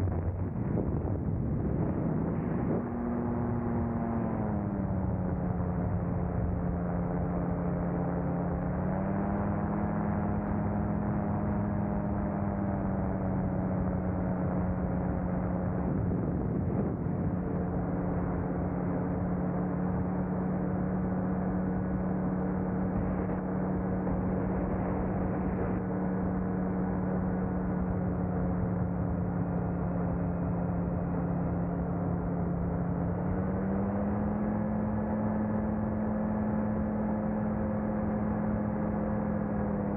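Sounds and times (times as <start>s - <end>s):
small aircraft engine running: 0.0s - 39.9s.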